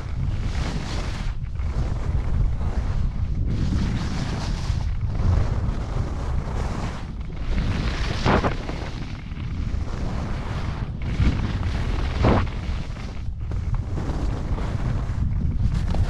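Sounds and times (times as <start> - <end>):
skis scraping through snow: 0.0 - 16.0
wind buffeting microphone: 0.0 - 16.0.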